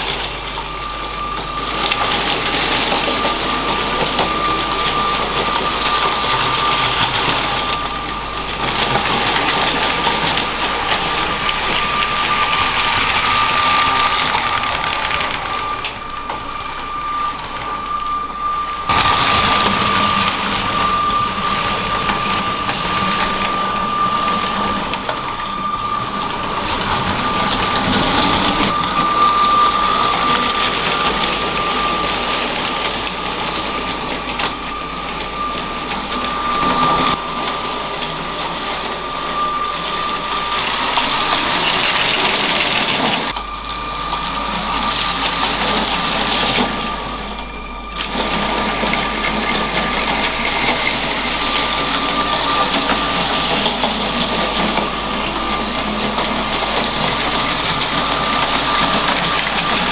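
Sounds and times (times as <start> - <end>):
toy train motor whine: 0.0 - 59.9
toy train wheels rolling on track: 0.0 - 59.9.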